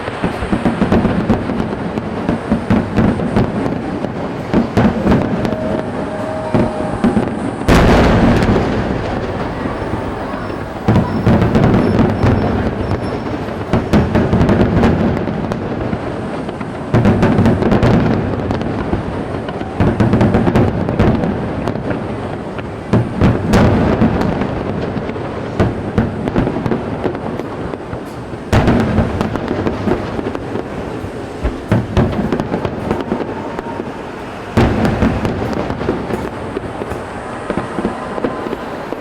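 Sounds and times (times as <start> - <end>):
fireworks booming: 0.0 - 39.0
fireworks crackling: 0.0 - 39.0.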